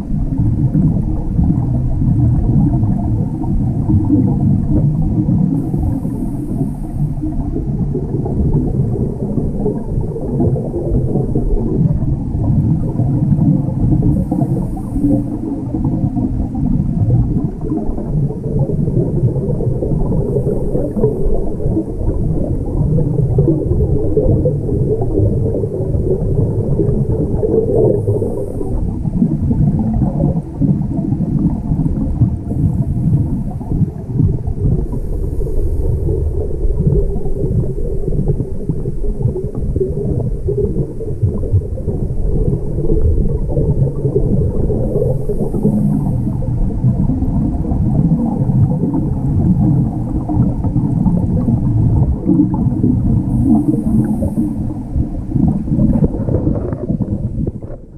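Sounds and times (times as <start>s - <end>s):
underwater regulator bubbling: 0.0s - 57.9s.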